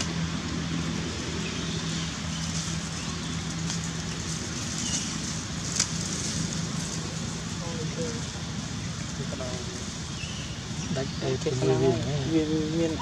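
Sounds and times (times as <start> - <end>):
low motor hum: 0.0 - 13.0
outdoor background noise: 0.0 - 13.0.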